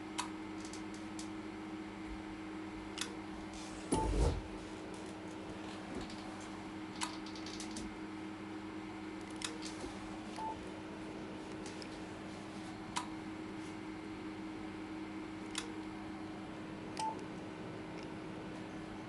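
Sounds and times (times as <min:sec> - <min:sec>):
equipment humming: 0:00.0 - 0:19.0.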